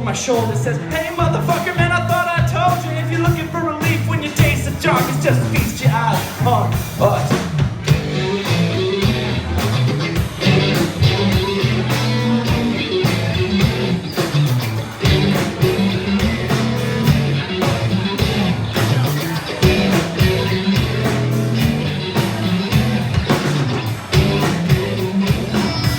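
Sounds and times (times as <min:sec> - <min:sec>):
guitar: 0:00.0 - 0:25.9
live rock band playing: 0:00.0 - 0:25.9
sustained bass line: 0:00.0 - 0:25.9.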